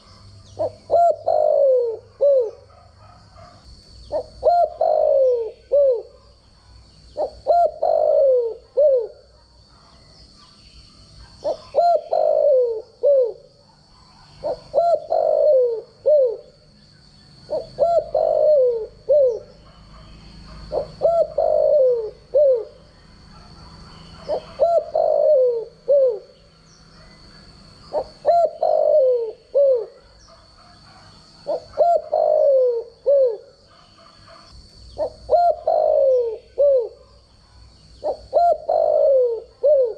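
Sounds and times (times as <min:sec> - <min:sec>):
dove cooing: 0:00.0 - 0:16.7, 0:17.4 - 0:39.9.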